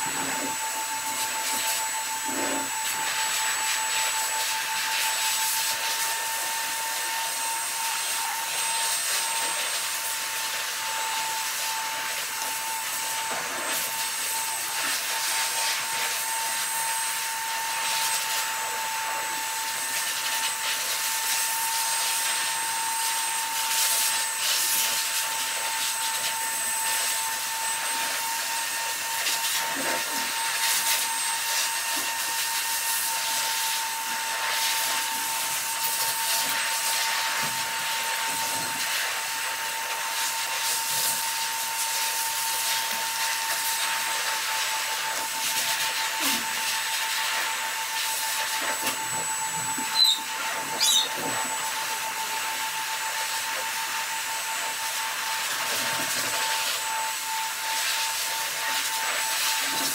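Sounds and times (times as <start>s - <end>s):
electric motor hiss and whine: 0.0s - 59.9s.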